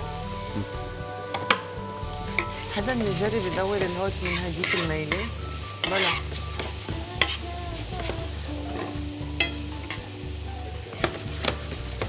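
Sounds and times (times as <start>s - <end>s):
shallots sizzling in a pan: 0.0s - 12.0s.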